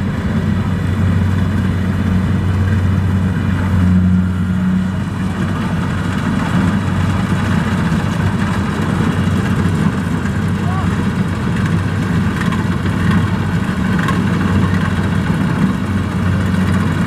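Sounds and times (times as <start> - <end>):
combine harvester diesel engine: 0.0 - 17.0.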